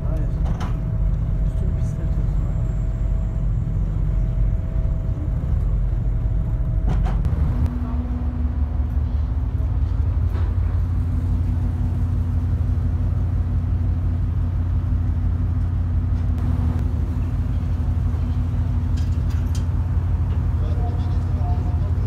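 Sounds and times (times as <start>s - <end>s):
ferry engines droning: 0.0s - 22.0s.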